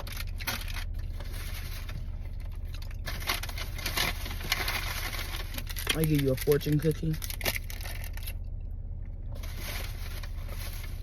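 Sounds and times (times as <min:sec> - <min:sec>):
food packaging rustling and crinkling: 0:00.0 - 0:08.4, 0:09.3 - 0:11.0
low hum: 0:00.0 - 0:11.0.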